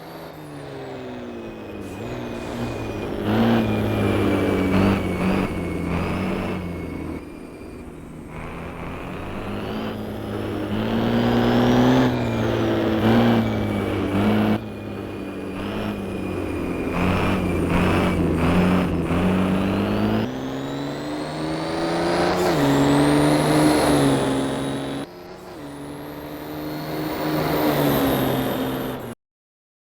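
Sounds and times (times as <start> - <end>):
truck diesel engine running hard: 0.0 - 29.2
turbo whine: 0.0 - 29.2.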